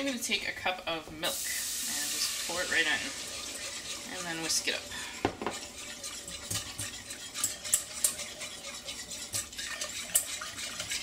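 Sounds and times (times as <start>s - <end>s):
whisk scraping a saucepan: 0.0s - 11.0s.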